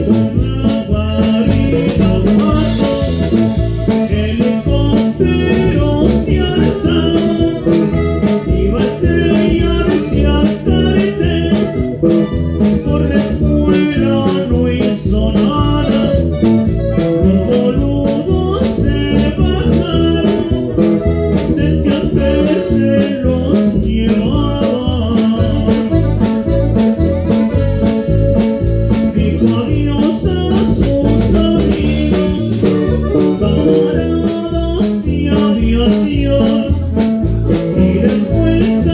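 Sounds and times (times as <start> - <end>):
accordion melody: 0.0 - 38.9
guitars strumming: 0.0 - 38.9
steady drum beat: 0.0 - 38.9.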